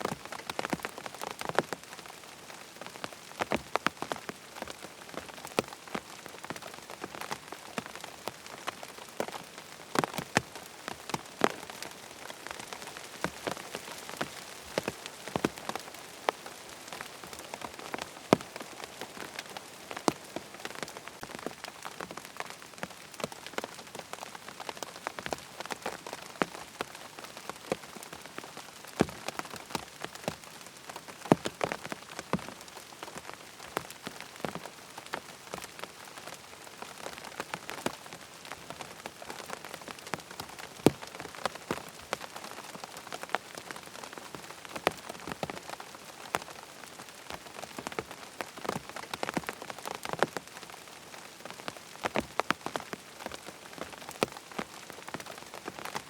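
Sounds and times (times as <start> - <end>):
large raindrops tapping: 0.0 - 56.0
rain pattering on tent fabric: 0.0 - 56.0.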